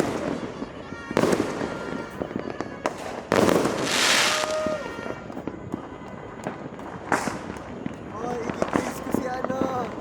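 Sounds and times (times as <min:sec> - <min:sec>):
fireworks pops and bangs: 0:00.0 - 0:10.0.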